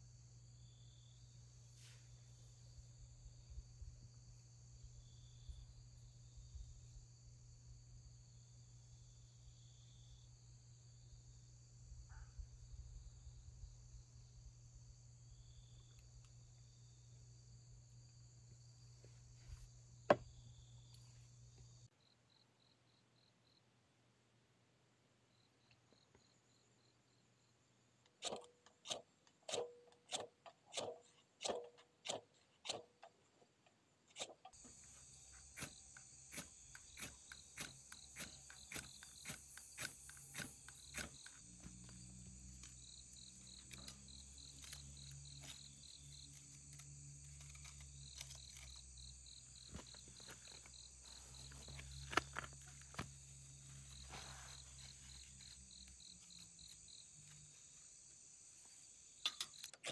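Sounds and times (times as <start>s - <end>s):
insects chirping: 0.0s - 23.6s, 25.3s - 29.0s, 34.5s - 59.8s.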